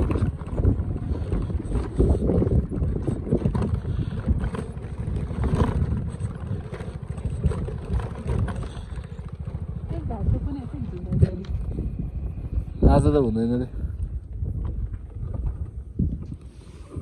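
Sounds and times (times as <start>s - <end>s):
motorcycle engine running: 0.0s - 16.4s
wind buffeting microphone: 0.0s - 17.0s.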